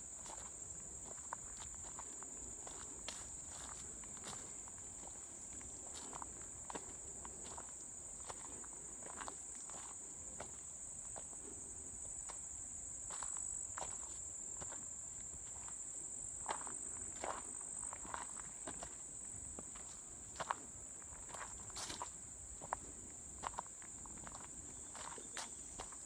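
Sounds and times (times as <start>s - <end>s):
footsteps on dirt trail: 0.0s - 26.0s
insect chorus: 0.0s - 26.0s.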